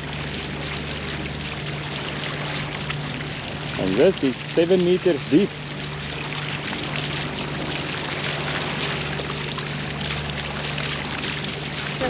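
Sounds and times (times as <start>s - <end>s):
low engine hum: 0.0s - 12.0s
water rushing along a hull: 0.0s - 12.0s.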